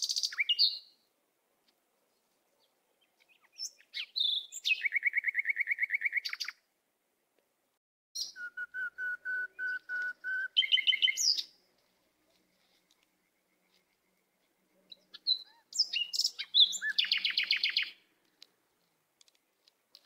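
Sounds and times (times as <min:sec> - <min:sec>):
songbird singing: 0:00.0 - 0:06.7, 0:08.2 - 0:20.0.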